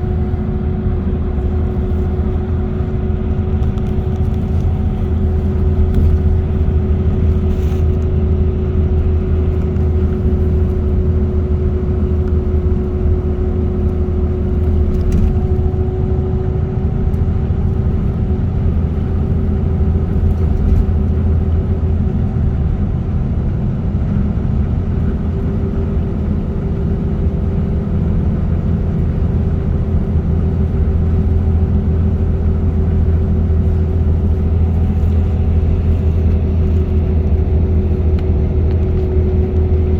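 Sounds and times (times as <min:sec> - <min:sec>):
car engine and tyre drone: 0:00.0 - 0:39.9.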